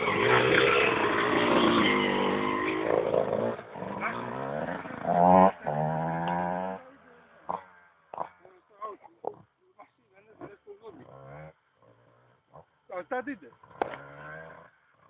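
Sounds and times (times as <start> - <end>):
motorcycle engine revving: 0.0 - 9.6, 10.2 - 15.0.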